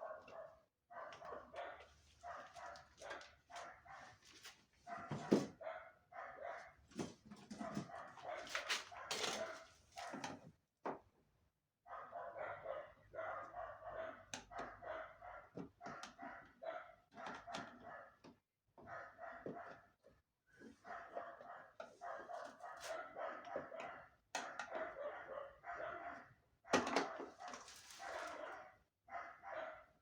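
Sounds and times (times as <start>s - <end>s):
small dog barking: 0.0s - 4.2s, 4.9s - 6.8s, 7.6s - 10.2s, 11.9s - 18.2s, 18.8s - 19.8s, 20.8s - 30.0s.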